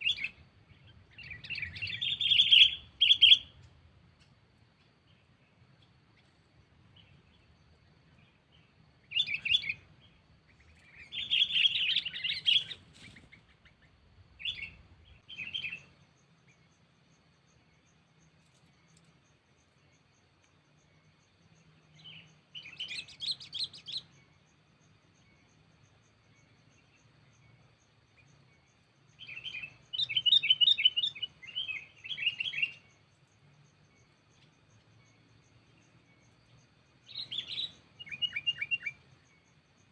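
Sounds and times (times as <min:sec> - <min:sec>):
faint insect-like ticking: 0:00.0 - 0:39.9.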